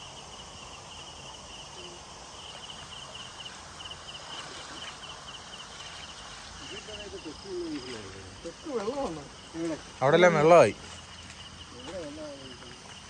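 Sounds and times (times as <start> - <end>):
fast-flowing water hissing: 0.0 - 11.8
insect chirping in trills: 0.0 - 13.0.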